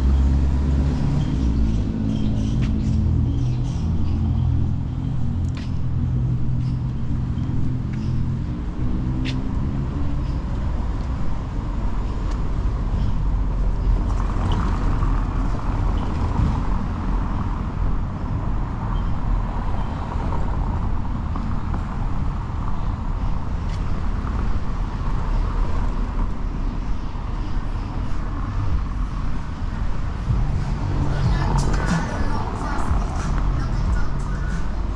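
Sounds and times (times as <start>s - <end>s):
engine hum: 0.0s - 34.9s
traffic passing: 0.0s - 34.9s.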